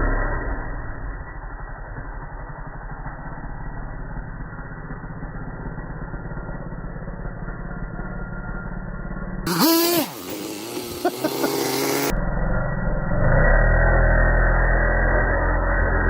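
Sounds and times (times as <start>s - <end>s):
small nitro engine idling: 0.0s - 16.0s.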